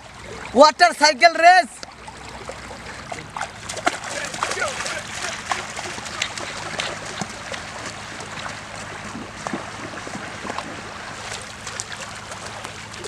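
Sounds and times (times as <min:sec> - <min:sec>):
shallow river water splashing: 0:00.0 - 0:13.0.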